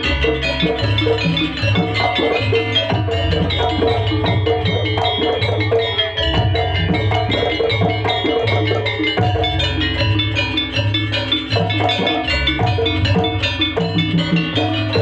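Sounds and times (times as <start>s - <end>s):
gamelan ensemble music: 0.0s - 15.0s.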